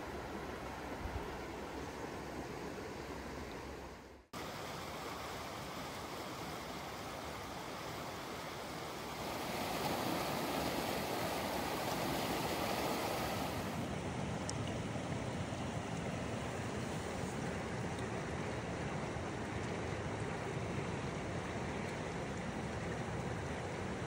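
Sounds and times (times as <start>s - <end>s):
stream rushing over boulders: 0.0s - 24.0s.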